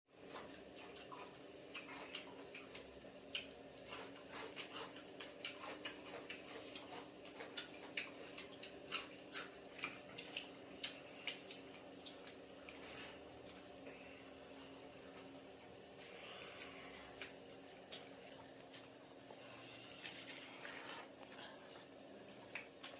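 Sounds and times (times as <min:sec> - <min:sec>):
faint steady hum: 0:00.1 - 0:22.9
eating clicks and smacks: 0:00.2 - 0:13.8, 0:14.5 - 0:19.4, 0:21.2 - 0:22.9.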